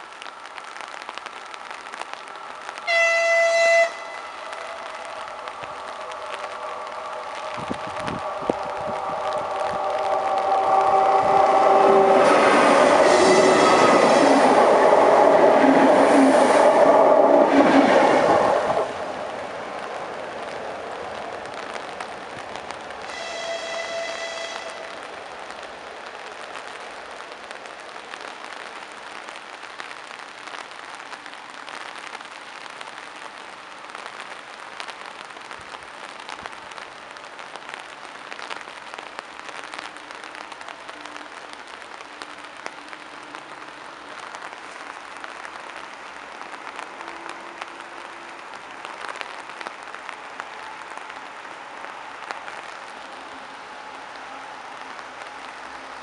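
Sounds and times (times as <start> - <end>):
rain pattering on foliage: 0.0 - 56.0.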